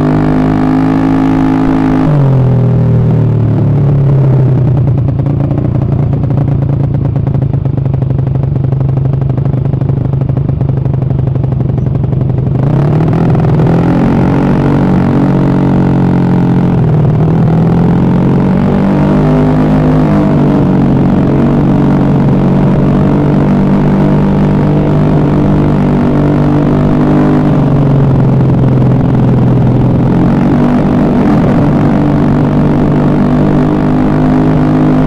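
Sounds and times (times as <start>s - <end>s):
scooter engine running: 0.0s - 35.0s.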